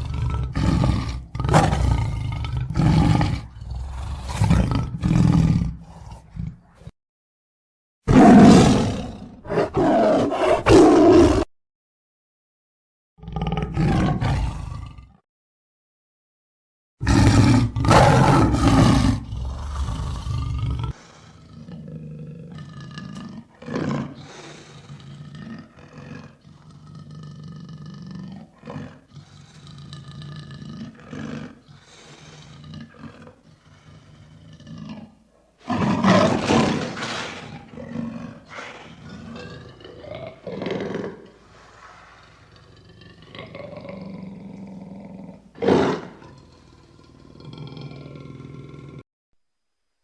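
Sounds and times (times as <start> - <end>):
lion roaring: 0.0 - 6.8, 8.1 - 11.5, 13.2 - 15.2, 17.0 - 49.0.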